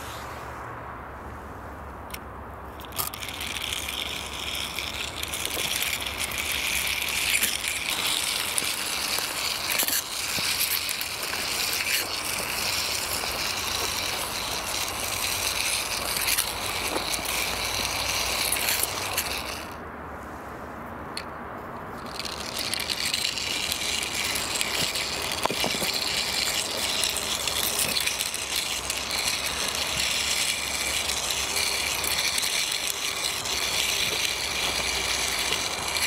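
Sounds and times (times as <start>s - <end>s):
toy car wheels rattling on ground: 2.1s - 19.8s, 21.1s - 36.0s.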